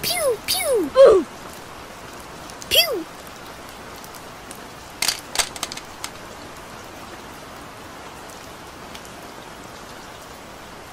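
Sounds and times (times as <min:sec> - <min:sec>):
steady rain falling: 0:00.0 - 0:10.9.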